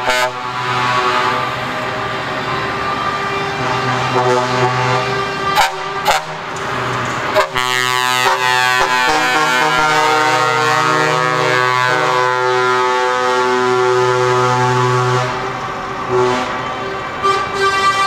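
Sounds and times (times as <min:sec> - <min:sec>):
truck air horns: 0:00.0 - 0:18.0.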